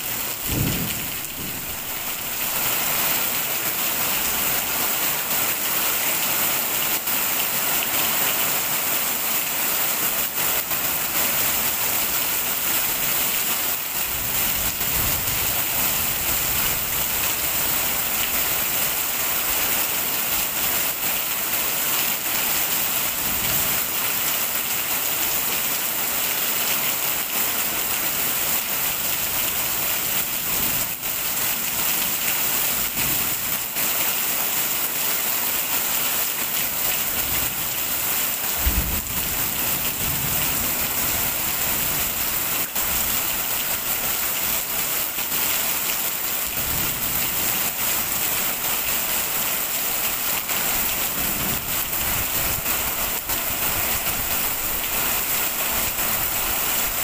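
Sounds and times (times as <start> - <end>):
heavy rain on stone and puddles: 0.0 - 57.0.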